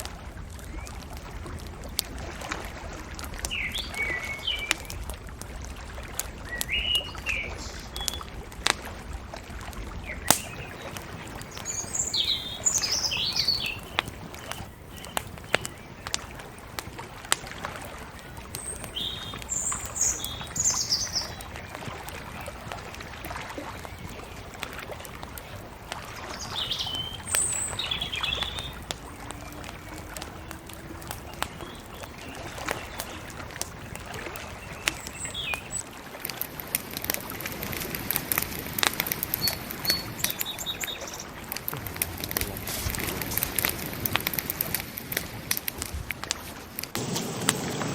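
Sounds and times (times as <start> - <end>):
bonfire crackling: 0.0 - 47.9
birds chirping: 3.4 - 5.1, 6.1 - 8.6, 9.9 - 45.6.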